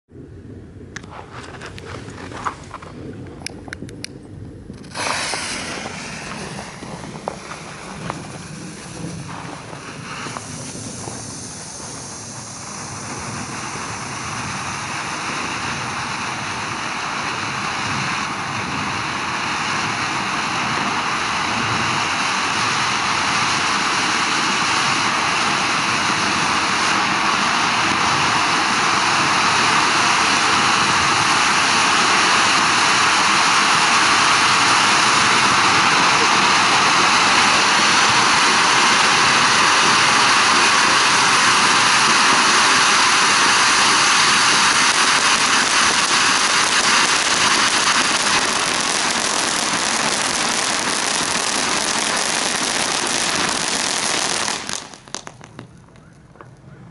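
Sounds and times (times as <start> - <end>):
firework fountain hissing: 1.0 - 56.6.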